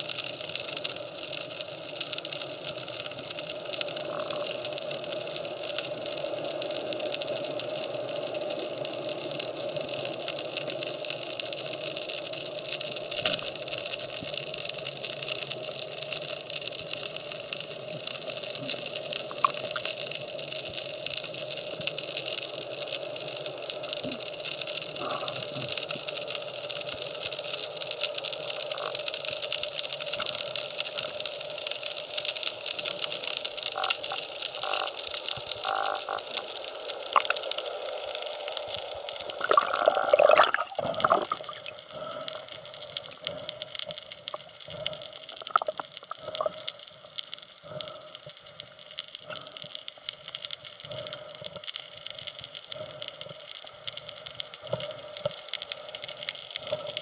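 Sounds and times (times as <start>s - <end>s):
fine crackling clicks: 0.0s - 57.0s.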